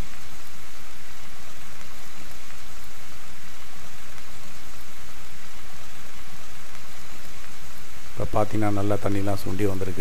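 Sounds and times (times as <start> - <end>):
food sizzling in covered pan: 0.0 - 10.0.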